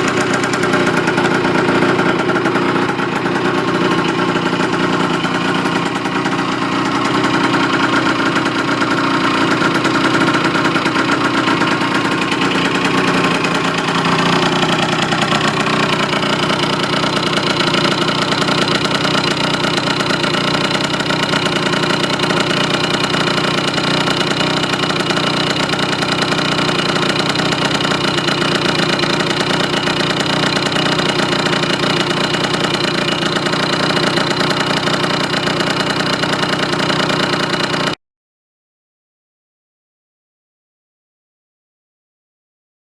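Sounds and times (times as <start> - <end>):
two-stroke scooter engine running: 0.0 - 38.0.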